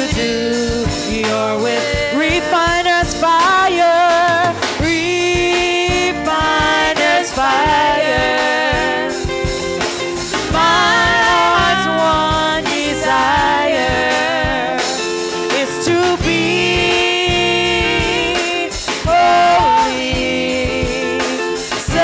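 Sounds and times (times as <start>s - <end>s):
drum kit beat: 0.0s - 22.0s
women singing gospel together: 0.0s - 22.0s.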